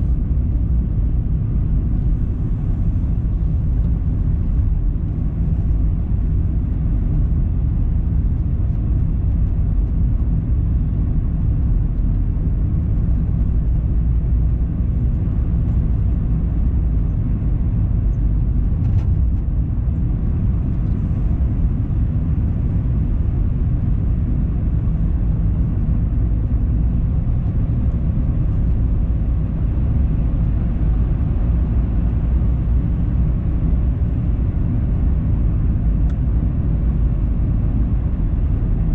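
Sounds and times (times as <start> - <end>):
car driving with tyre rumble: 0.0 - 38.9.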